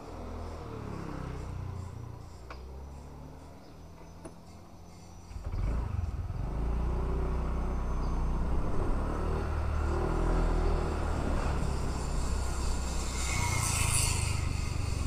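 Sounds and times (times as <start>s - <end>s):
motor scooter engine rumble: 0.1s - 15.0s.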